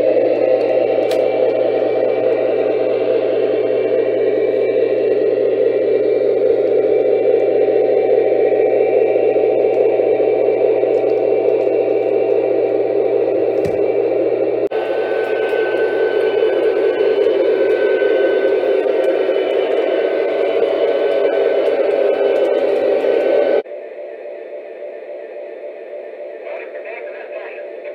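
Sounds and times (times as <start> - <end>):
faint steady whine: 0.0 - 27.9
model locomotive turbine roar: 0.0 - 27.9.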